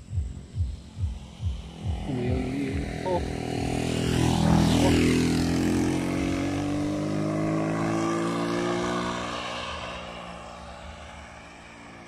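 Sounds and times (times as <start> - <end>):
motorcycle passing by: 0.0 - 12.0.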